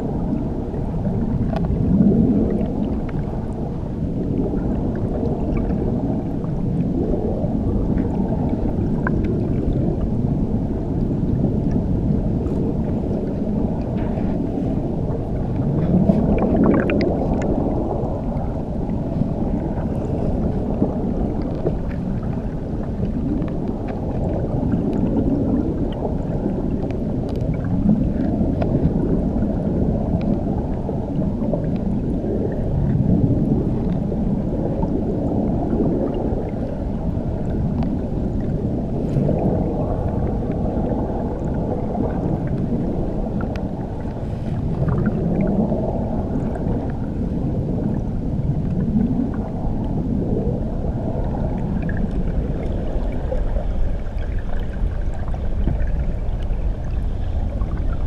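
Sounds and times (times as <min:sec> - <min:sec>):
muffled underwater churning water: 0:00.0 - 0:58.0.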